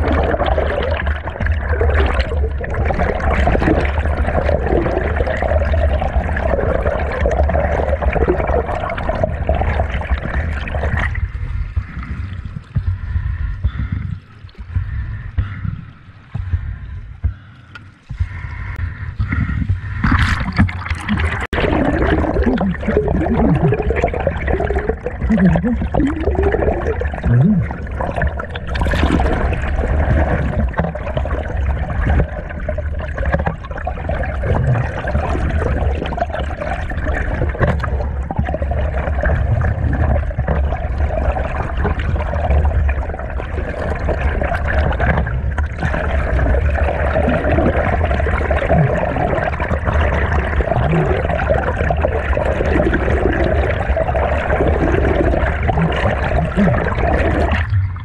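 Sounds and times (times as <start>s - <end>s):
bubbly warbles: 0.0s - 12.9s, 18.3s - 58.0s
low rumble: 0.0s - 58.0s
underwater stream rushing: 0.0s - 58.0s.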